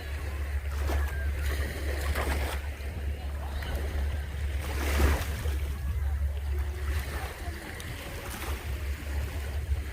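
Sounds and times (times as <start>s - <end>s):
ocean waves washing in: 0.0s - 9.9s
wind rumble on microphone: 0.0s - 9.9s.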